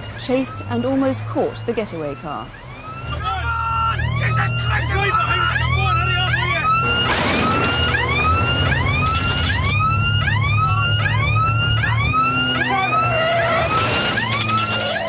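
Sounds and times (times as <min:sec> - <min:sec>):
siren whooping: 0:00.0 - 0:15.0.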